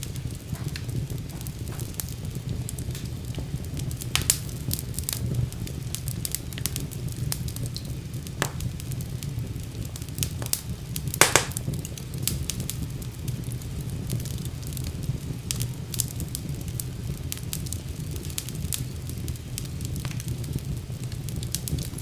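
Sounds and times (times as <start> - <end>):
sharp pops of fire: 0.0 - 22.0
wood fire crackling: 0.0 - 22.0.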